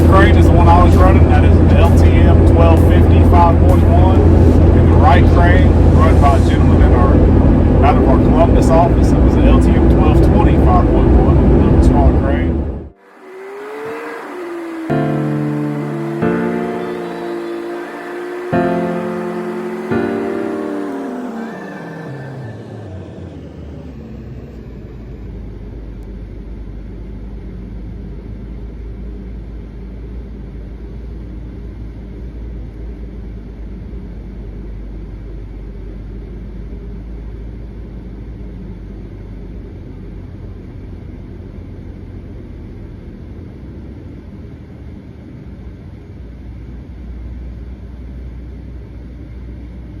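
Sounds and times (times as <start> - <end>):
vehicle low rumble: 0.0 - 50.0.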